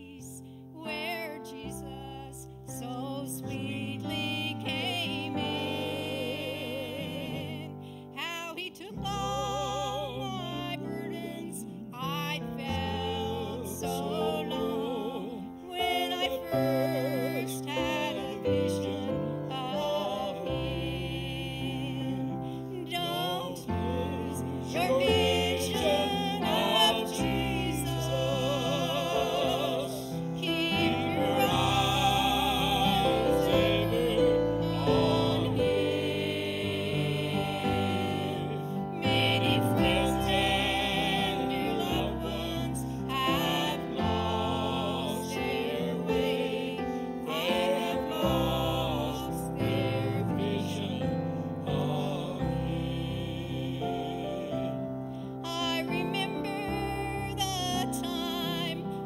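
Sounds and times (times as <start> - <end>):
woman singing gospel song: 0.0 - 36.0, 36.6 - 44.5, 55.4 - 59.0.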